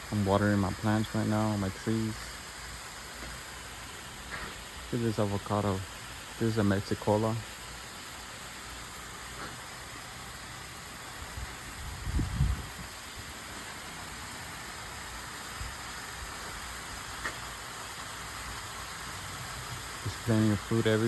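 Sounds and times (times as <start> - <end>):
garden hose spraying water: 0.0 - 21.0.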